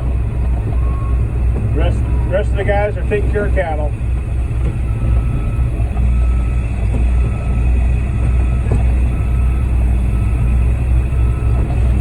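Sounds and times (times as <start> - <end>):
truck diesel engine rumble: 0.0 - 12.0.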